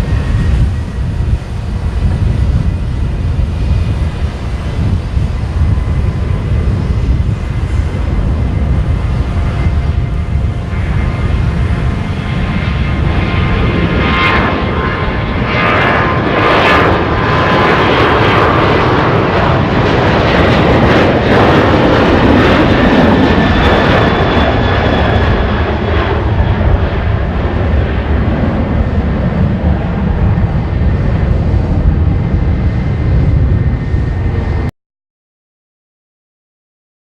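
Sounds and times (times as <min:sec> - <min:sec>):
jet engine roar: 0:00.0 - 0:34.7.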